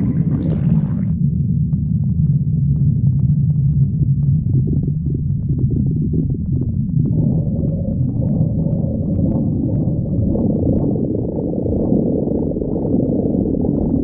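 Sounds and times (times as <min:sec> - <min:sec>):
stomach growling: 0:00.0 - 0:14.0.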